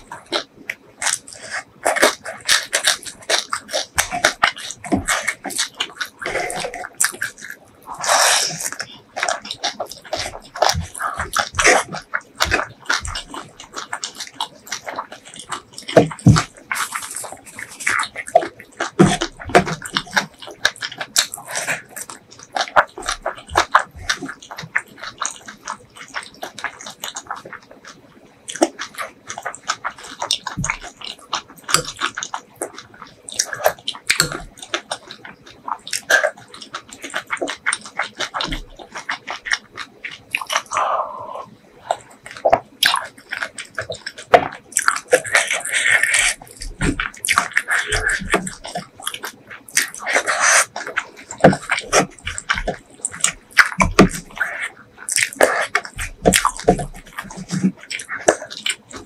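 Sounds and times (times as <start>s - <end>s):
close chewing and mouth sounds: 0.0s - 59.0s.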